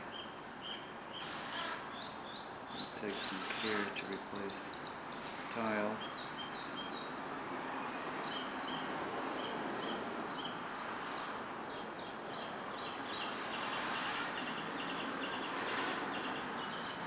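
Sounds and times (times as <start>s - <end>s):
small birds chirping: 0.0s - 7.2s, 7.8s - 17.0s.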